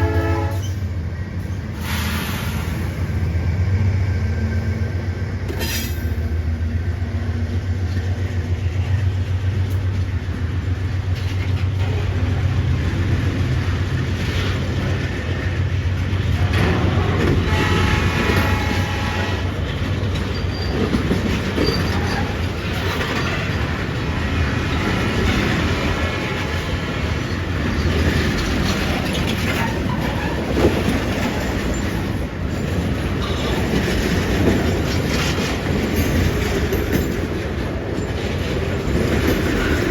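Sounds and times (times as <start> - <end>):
train wheels clacking over rail joints: 7.9 - 39.9.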